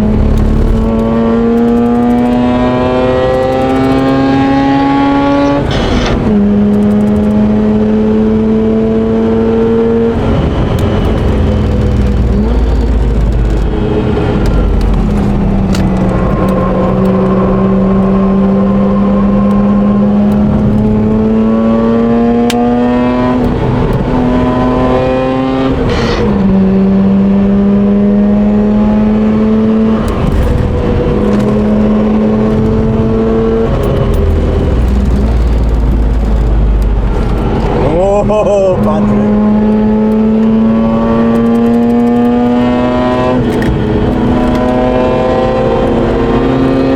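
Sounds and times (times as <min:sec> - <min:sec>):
rotary engine running hard: 0:00.0 - 0:46.9.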